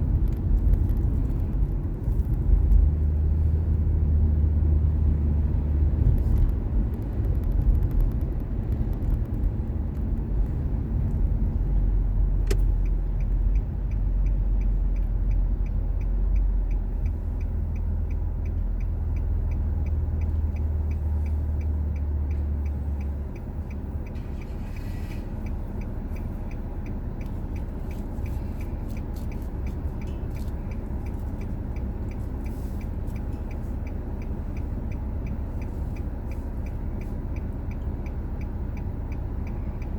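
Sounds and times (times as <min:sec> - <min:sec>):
car engine and road noise: 0:00.0 - 0:39.9
faint regular ticking: 0:06.2 - 0:39.9.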